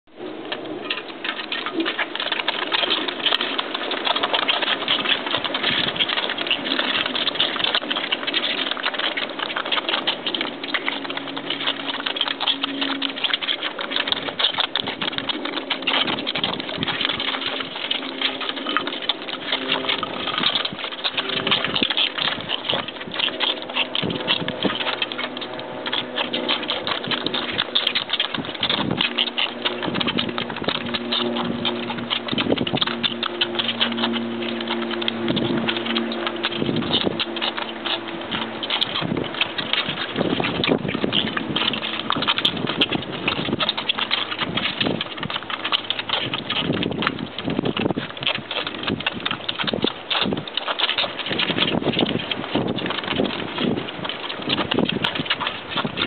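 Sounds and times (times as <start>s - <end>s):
piglets slurping milk: 0.1s - 56.0s.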